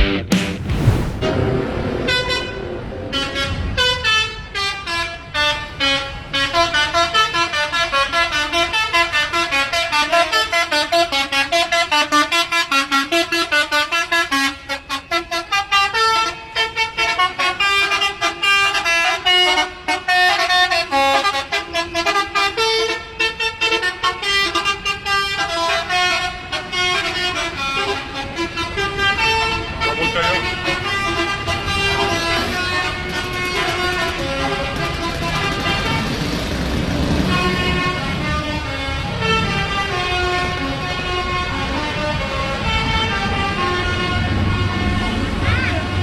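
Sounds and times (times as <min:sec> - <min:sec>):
bus horn playing a tune: 0:02.1 - 0:46.0.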